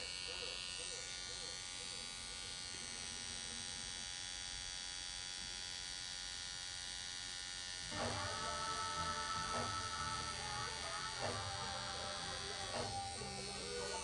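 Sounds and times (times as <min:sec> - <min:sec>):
tattoo machine humming: 0:00.0 - 0:14.0.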